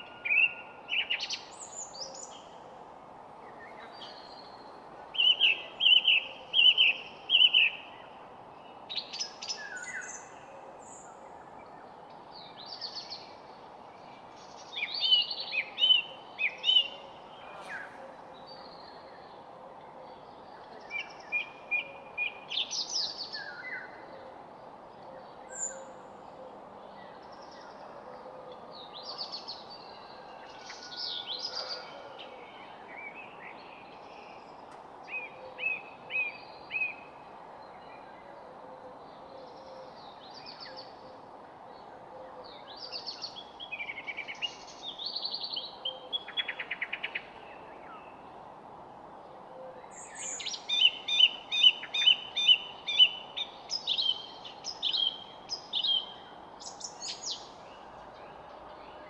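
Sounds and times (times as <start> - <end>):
steady background hiss: 0.0 - 59.0
songbirds singing: 3.4 - 59.0.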